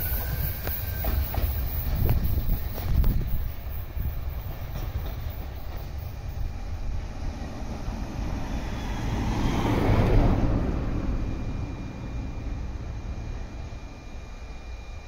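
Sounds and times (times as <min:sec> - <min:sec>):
electric train rumbling on rails: 0:00.0 - 0:15.0.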